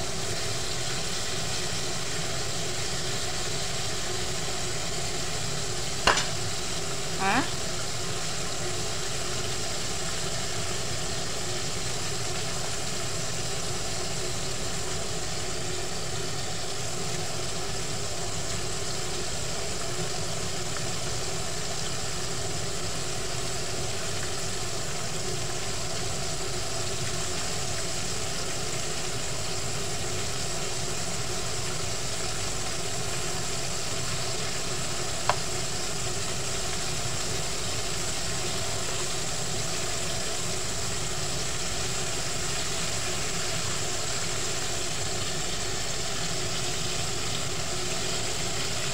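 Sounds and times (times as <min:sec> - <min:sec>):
chicken sizzling in hot oil: 0:00.0 - 0:48.9.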